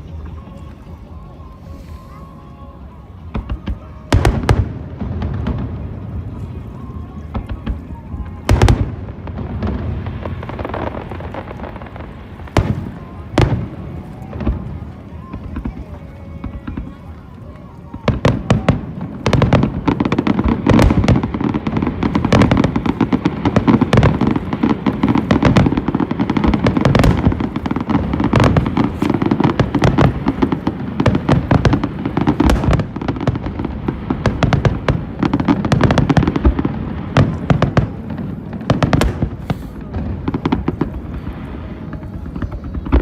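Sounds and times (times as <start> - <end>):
fireworks cracks and bangs: 3.2 - 43.0.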